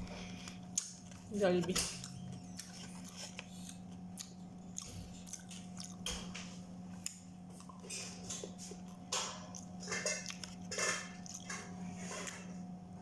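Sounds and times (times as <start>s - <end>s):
person chewing: 0.0s - 12.5s.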